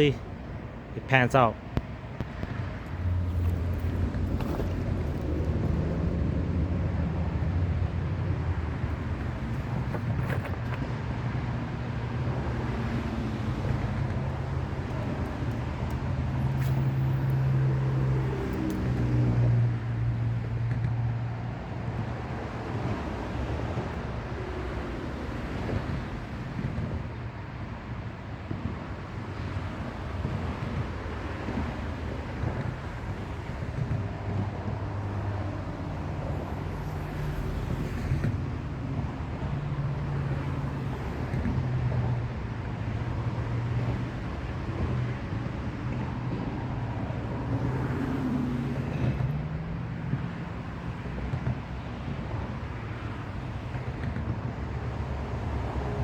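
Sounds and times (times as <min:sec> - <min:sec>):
low drone of vehicle traffic: 0:00.0 - 0:56.0.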